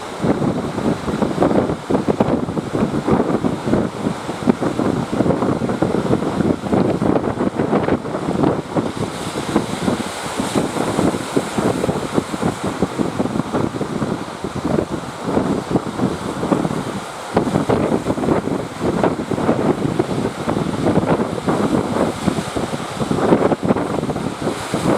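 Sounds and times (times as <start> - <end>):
surf: 0.0 - 24.9
wind buffeting microphone: 0.0 - 24.9.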